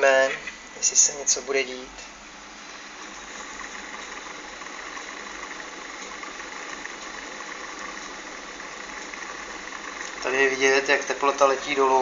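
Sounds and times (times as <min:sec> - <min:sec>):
fan whirring: 0:00.0 - 0:12.0.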